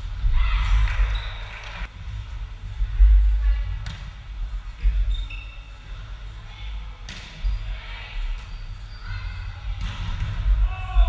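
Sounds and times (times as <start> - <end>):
rumble of players moving: 0.0 - 11.0.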